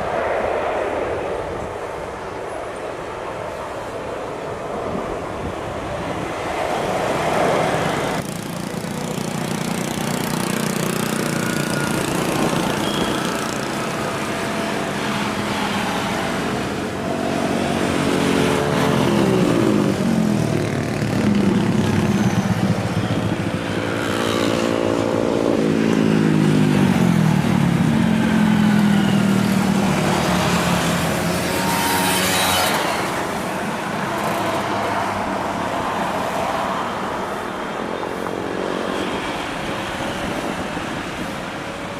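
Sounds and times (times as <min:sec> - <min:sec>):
cars passing: 0:00.0 - 0:41.9
traffic rumble: 0:00.0 - 0:41.9
motorcycles passing: 0:05.0 - 0:41.9.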